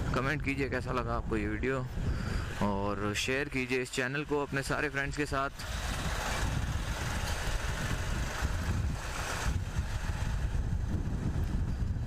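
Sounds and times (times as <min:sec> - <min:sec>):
motorcycle engine rumble: 0:00.0 - 0:12.0
wind rushing over microphone: 0:00.0 - 0:12.0.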